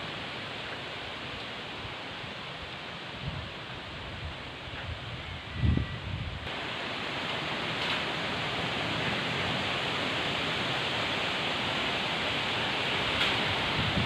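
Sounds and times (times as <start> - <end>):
strong wind through trees: 0.0 - 14.0.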